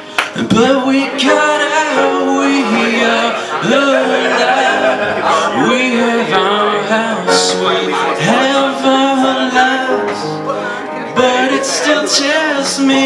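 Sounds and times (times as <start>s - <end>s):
man singing: 0.0s - 13.0s
piano accompaniment: 0.0s - 13.0s.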